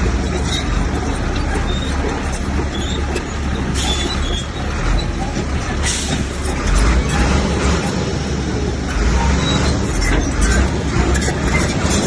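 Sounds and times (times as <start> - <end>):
bulldozer diesel engine rumbling: 0.0 - 12.0.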